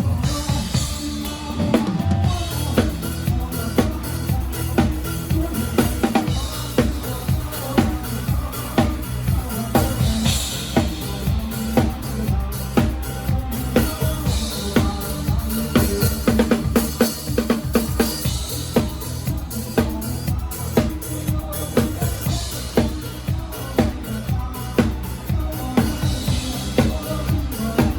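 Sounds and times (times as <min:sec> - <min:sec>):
drum kit playing: 0:00.0 - 0:27.9
sustained bass line: 0:00.0 - 0:27.9.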